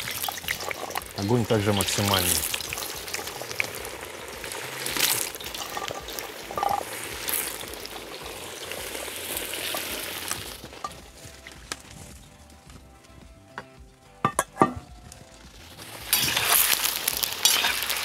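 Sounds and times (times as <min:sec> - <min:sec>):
hot oil sizzling and crackling: 0:00.0 - 0:18.0.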